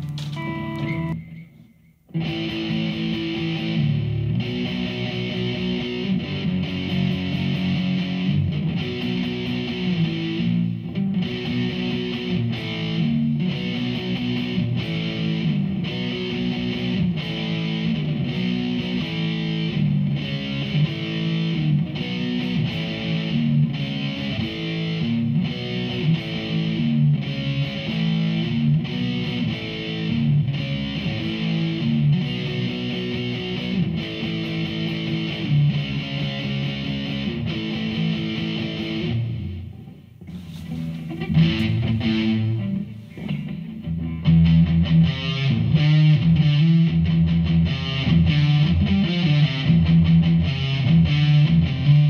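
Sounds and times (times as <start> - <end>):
distorted electric guitar riff: 0.0 - 52.0.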